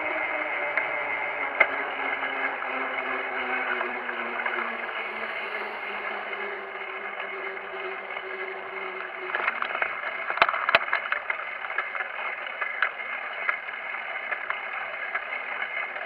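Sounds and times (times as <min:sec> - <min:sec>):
bicycle rolling and wind noise: 0:00.0 - 0:16.0
sharp rattling clicks: 0:00.7 - 0:16.0.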